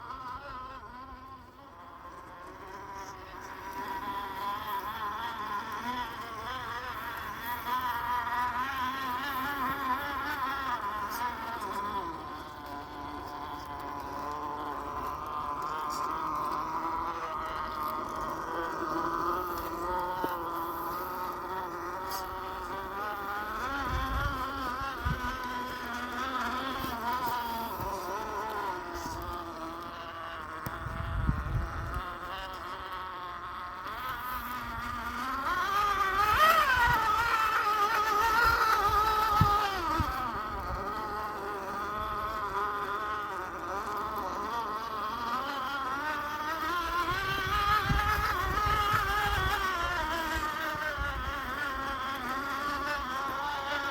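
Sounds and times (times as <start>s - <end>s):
electric motor and gearbox whining: 0.0s - 53.9s.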